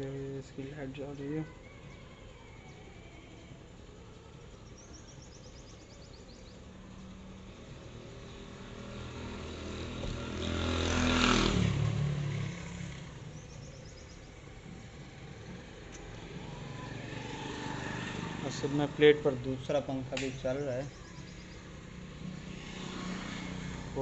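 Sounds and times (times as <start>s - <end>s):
motor vehicle passing by: 4.6s - 24.0s.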